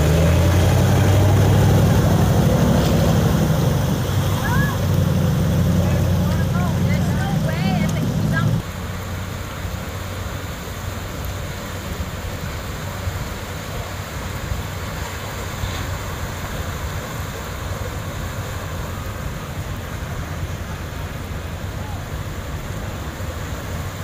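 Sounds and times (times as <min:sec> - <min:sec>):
low engine hum: 0:00.0 - 0:24.0
water rushing: 0:00.0 - 0:24.0.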